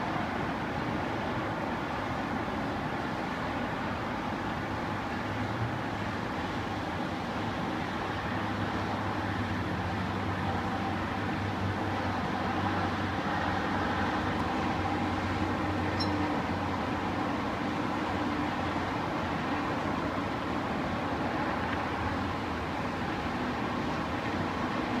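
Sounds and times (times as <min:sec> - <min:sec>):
distant city traffic hum: 0:00.0 - 0:25.0.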